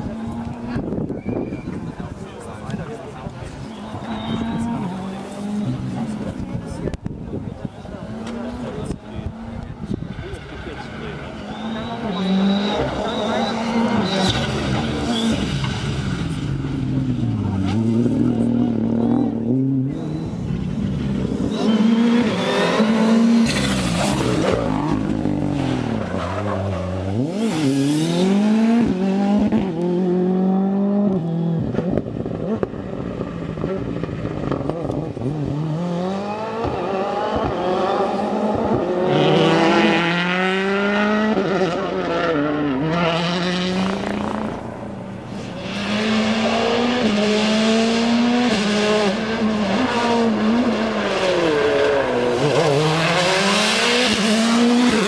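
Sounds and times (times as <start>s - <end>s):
rally car engine at full throttle: 0.0s - 55.0s.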